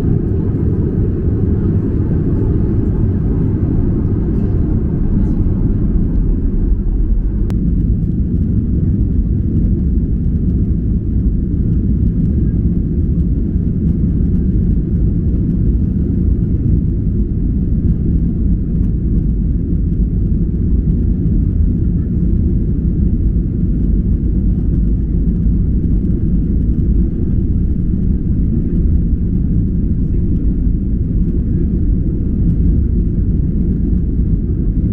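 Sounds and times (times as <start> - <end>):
jet engines roaring at takeoff: 0.0 - 34.9.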